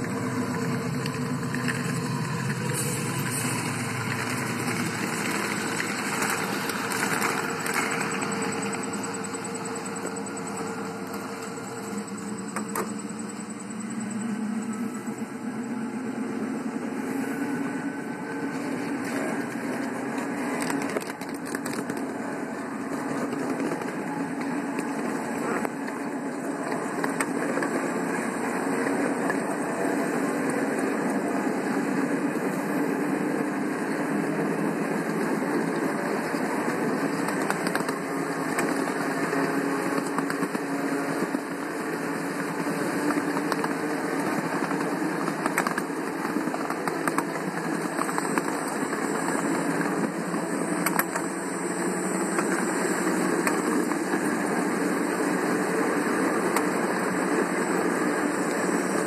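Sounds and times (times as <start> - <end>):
small locomotive engine drone: 0.0 - 59.0
train rolling on track: 0.0 - 59.0.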